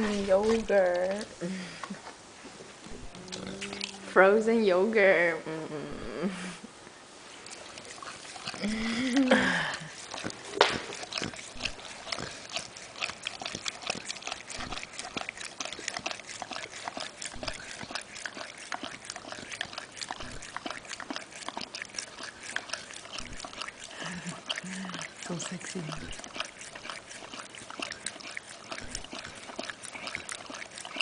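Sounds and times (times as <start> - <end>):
dog licking: 0.0 - 1.4, 2.8 - 4.4, 7.4 - 31.0.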